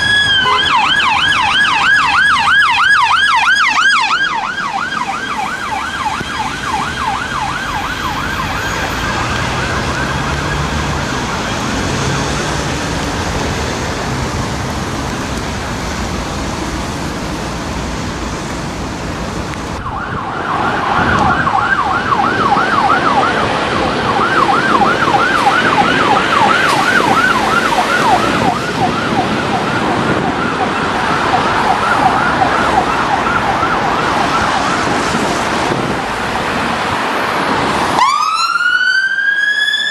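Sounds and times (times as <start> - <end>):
emergency vehicle siren yelping: 0.0 - 15.4, 16.9 - 39.9
traffic noise: 0.0 - 39.9.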